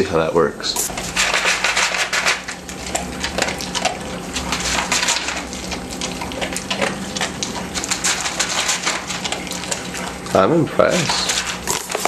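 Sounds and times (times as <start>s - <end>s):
dog crunching dry kibble: 0.8s - 12.0s.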